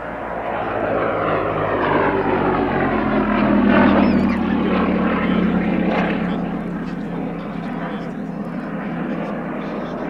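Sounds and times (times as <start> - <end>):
radial aircraft engine flypast: 0.0 - 10.0.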